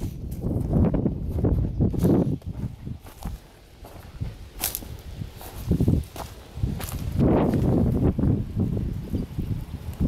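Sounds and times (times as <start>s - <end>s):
footsteps crunching on stubble: 0.0s - 10.0s.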